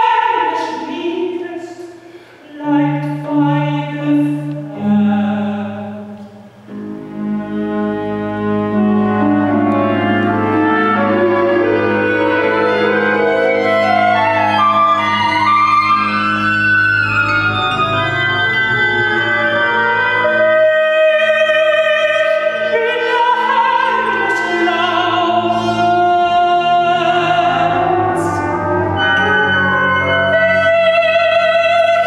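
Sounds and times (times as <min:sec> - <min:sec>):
person singing opera: 0:00.0 - 0:06.4, 0:09.6 - 0:32.0
orchestra sustained chords: 0:01.4 - 0:32.0.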